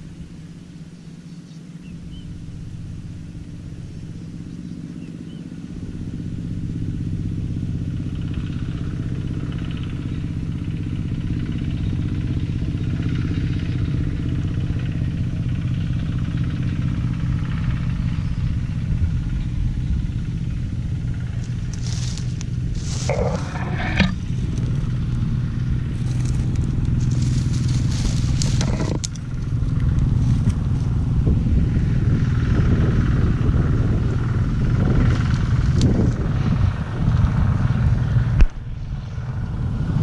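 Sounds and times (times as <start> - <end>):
small engine running: 0.0 - 40.0.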